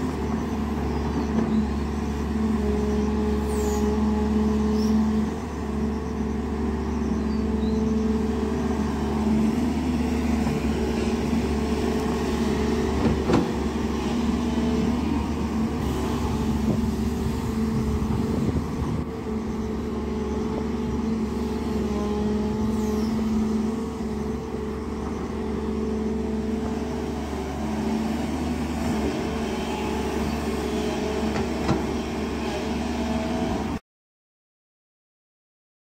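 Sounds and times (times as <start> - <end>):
excavator diesel engine running: 0.0 - 33.8.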